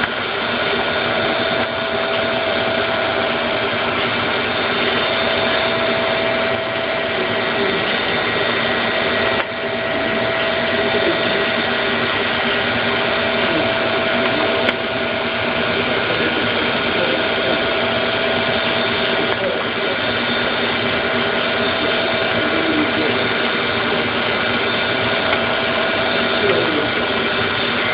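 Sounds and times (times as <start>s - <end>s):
chiller compressor rattling and whining: 0.0s - 27.9s.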